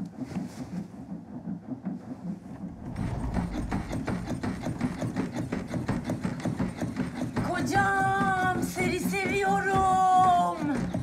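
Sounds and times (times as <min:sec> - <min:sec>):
bed knocking rhythmically: 0:00.9 - 0:11.0.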